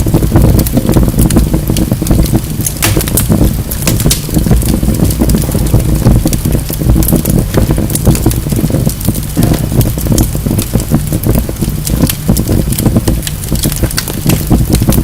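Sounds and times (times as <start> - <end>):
fire crackling and snapping: 0.0 - 15.0
low rumble of flames: 0.0 - 15.0.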